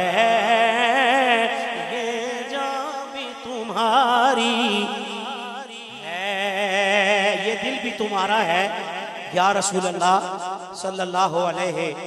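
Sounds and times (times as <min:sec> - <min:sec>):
man singing wordless vocal line: 0:00.0 - 0:12.0.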